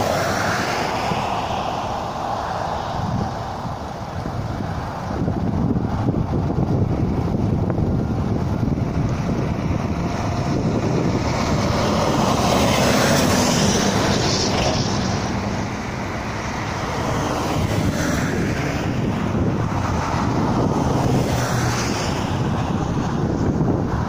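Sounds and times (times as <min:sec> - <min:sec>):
road traffic: 0:00.0 - 0:24.0
wind on microphone: 0:00.0 - 0:24.0.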